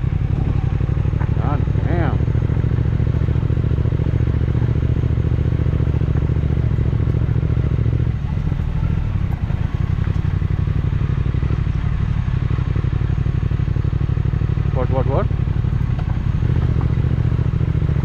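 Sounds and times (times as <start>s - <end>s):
motorcycle engine under throttle: 0.0s - 18.0s.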